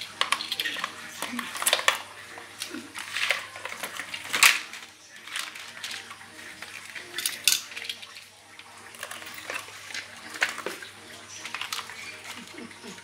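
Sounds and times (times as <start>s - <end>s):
plastic toy track pieces clacking: 0.0s - 13.0s.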